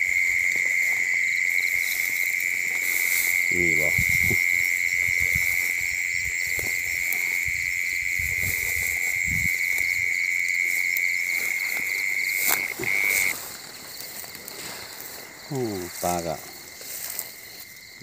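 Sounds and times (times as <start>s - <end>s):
cricket trilling: 0.0s - 18.0s
insects chirping: 0.0s - 18.0s
steps in grass: 0.0s - 18.0s.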